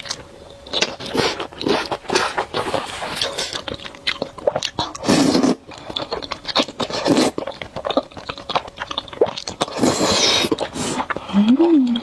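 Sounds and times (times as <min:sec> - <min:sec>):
wet chewing of noodles: 0:00.0 - 0:12.0.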